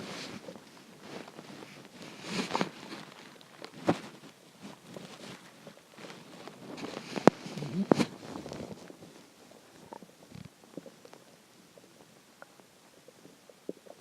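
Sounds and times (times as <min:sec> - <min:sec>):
stomach gurgling and rumbling: 0:00.0 - 0:14.0.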